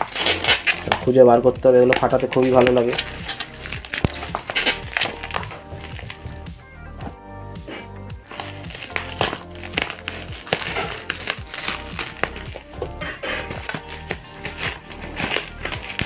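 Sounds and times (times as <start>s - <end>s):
background music: 0.0s - 16.0s
bubble wrap popping: 0.0s - 16.0s.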